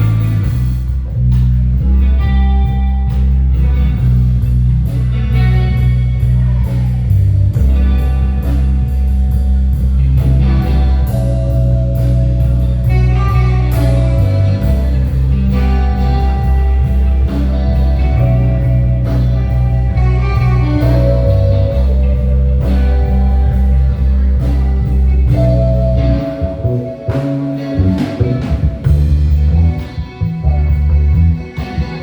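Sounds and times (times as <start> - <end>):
drums: 0.0 - 32.0
electric bass: 0.0 - 32.0
guitar: 0.0 - 32.0
keyboards: 0.0 - 32.0.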